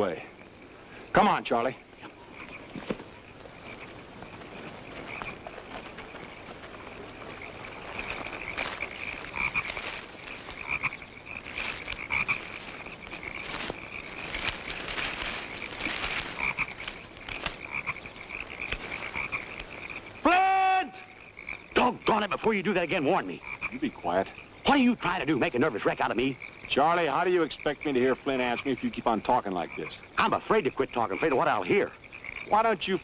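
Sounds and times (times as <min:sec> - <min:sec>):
frogs croaking: 0:00.0 - 0:33.0
frogs trilling: 0:00.0 - 0:33.0.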